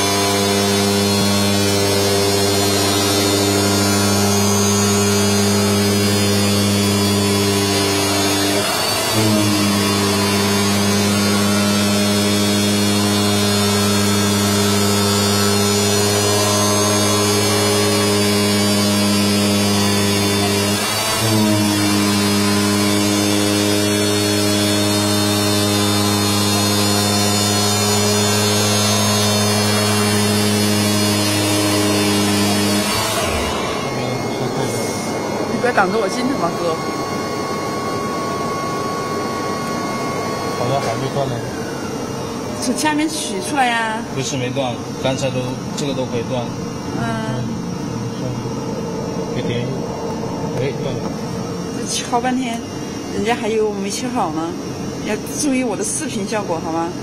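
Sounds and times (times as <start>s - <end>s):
cutting machine humming: 0.0s - 57.0s.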